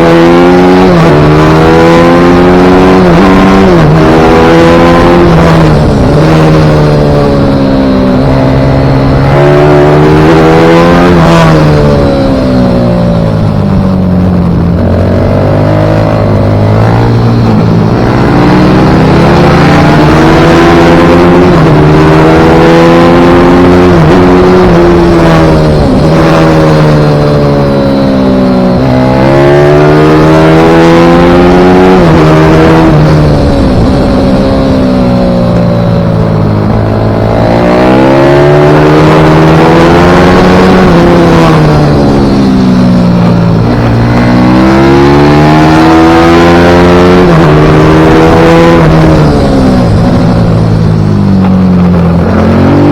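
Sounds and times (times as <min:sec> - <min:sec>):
motorbike engine revving hard: 0:00.0 - 0:52.9.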